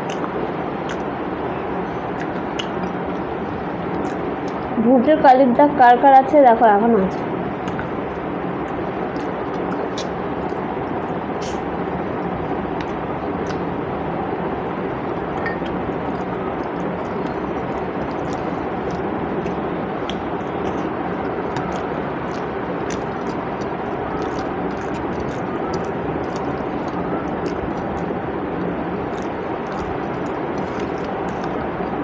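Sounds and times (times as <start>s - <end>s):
wet chewing and mixing food: 0.0s - 4.8s, 7.0s - 32.0s
steady rushing noise: 0.0s - 32.0s.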